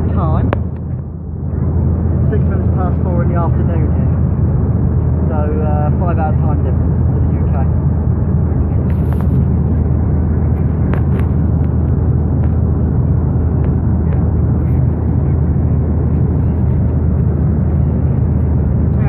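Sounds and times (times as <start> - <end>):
jet cabin rumble: 0.0 - 19.0.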